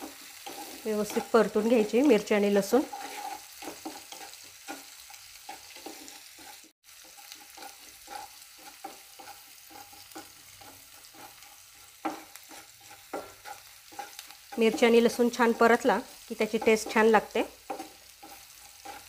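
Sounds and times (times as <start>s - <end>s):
hot oil sizzling: 0.0s - 19.0s
wooden spatula scraping a wok: 0.0s - 19.0s.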